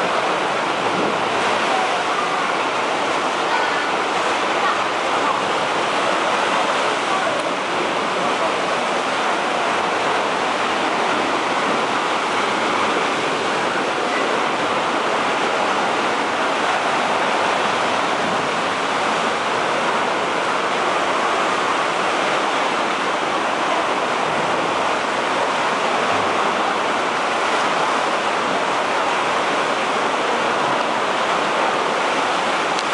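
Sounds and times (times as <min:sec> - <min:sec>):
ocean surf roaring in a cave: 0:00.0 - 0:32.9.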